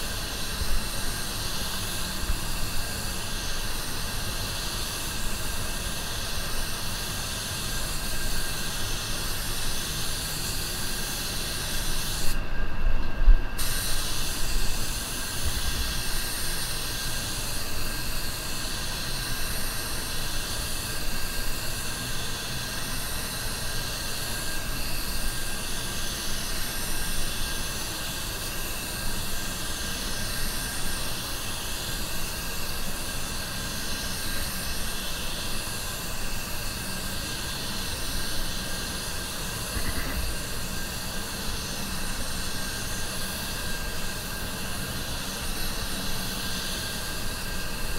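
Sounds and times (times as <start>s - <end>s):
spray gun hissing: 0.0s - 12.4s, 13.6s - 47.9s.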